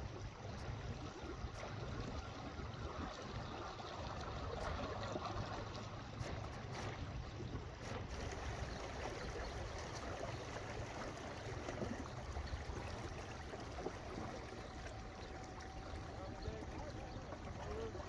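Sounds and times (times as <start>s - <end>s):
ripples on a pond: 0.0s - 18.0s
wind: 0.0s - 18.0s
wind rumble on microphone: 0.0s - 18.0s.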